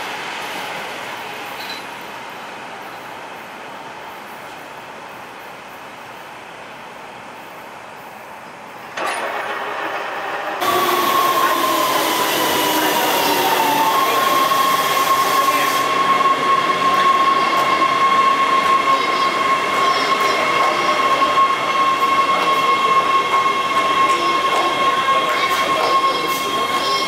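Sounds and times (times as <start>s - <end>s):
subway train rumble: 0.0s - 27.0s
train high whine: 0.0s - 27.0s.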